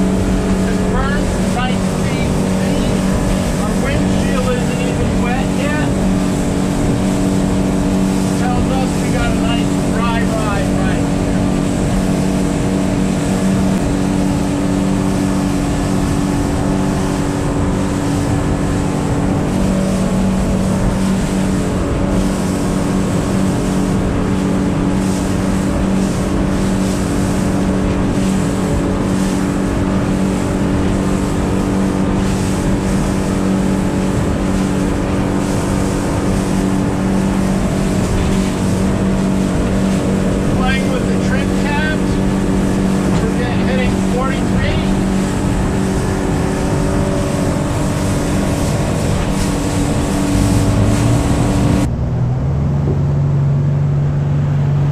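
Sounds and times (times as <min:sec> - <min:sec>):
outboard motor drone: 0:00.0 - 0:54.9.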